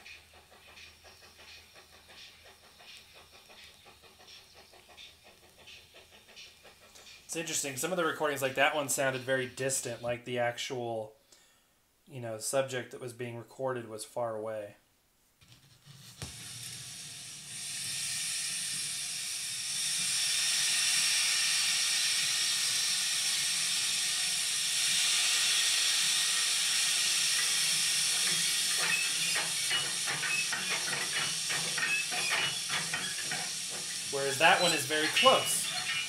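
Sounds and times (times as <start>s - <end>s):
steam hissing: 0.0s - 10.0s, 16.3s - 36.0s.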